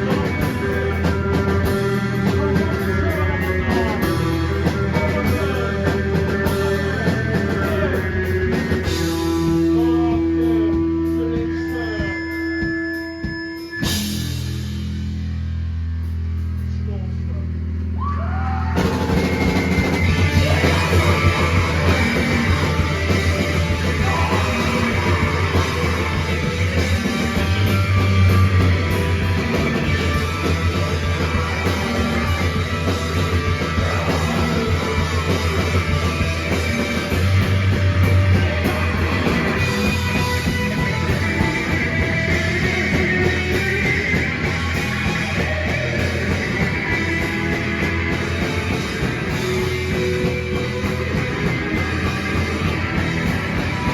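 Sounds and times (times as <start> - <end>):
electric guitars: 0.0 - 15.2, 18.2 - 53.9
drum kit: 0.0 - 16.8, 18.6 - 53.9.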